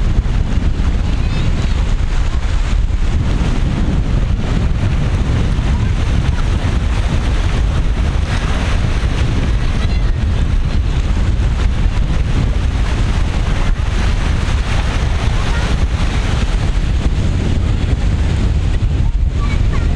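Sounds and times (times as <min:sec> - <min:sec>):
rough sea surf: 0:00.0 - 0:19.9
wind buffeting microphone: 0:00.0 - 0:19.9.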